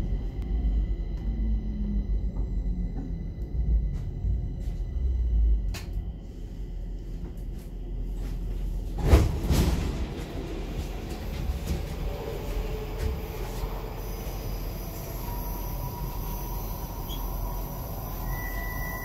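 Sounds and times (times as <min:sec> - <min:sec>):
metro car low rumble: 0:00.0 - 0:19.0.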